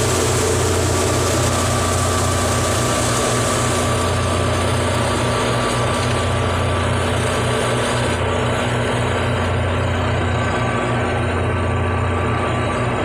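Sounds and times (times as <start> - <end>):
tractor engine and thresher: 0.0 - 13.0.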